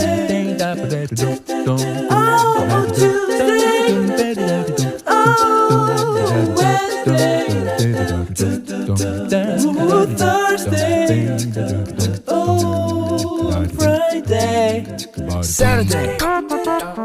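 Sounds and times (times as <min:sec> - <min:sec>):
voices singing in harmony: 0:00.0 - 0:17.0.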